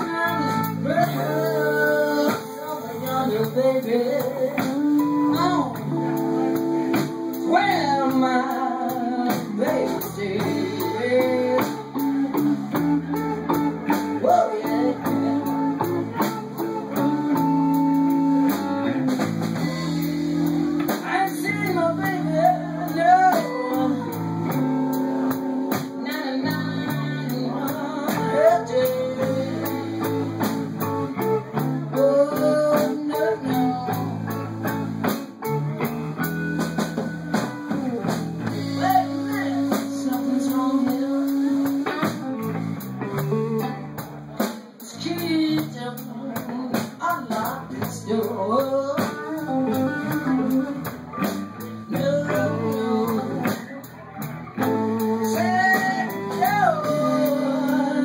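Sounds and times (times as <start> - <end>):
electric guitar lead lines: 0.0 - 58.0
live blues band: 0.0 - 58.0.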